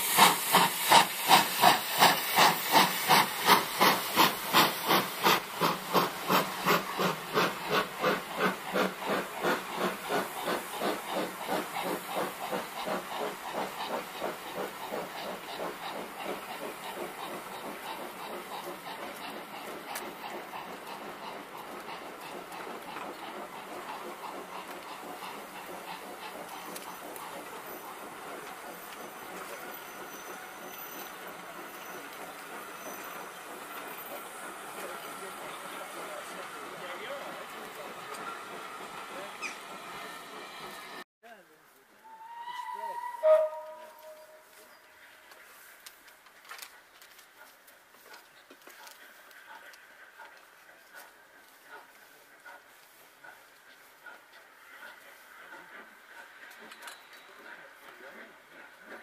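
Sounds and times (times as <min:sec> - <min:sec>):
steam hissing: 0:00.0 - 0:41.0, 0:49.2 - 0:59.0
train wheels running on rails: 0:00.0 - 0:41.0, 0:42.1 - 0:59.0
steam locomotive chuffing: 0:00.0 - 0:41.1, 0:42.0 - 0:59.0.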